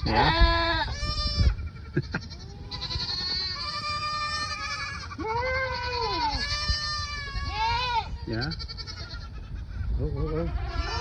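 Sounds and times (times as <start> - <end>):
goats bleating: 0.0 - 11.0.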